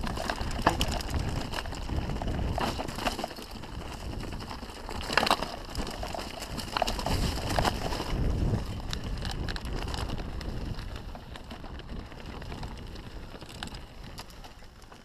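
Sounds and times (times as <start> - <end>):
wind on microphone: 0.0 - 14.5
bike clattering: 0.0 - 15.0
bike tyres rolling over stones: 0.0 - 15.0.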